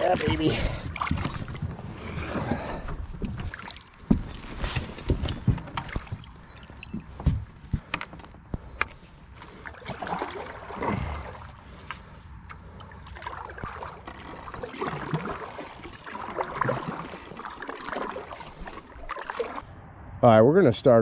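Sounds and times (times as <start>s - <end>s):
paddle swishing in water: 0.0s - 19.6s.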